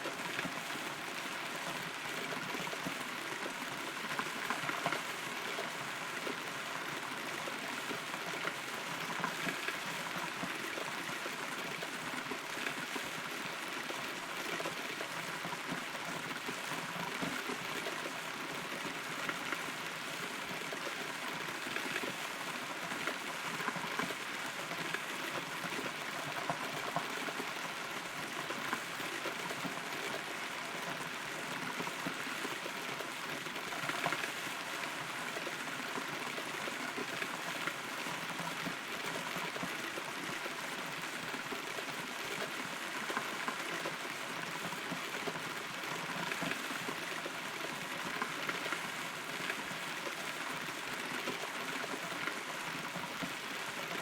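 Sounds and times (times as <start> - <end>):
raindrops ticking close by: 0.1 - 54.0.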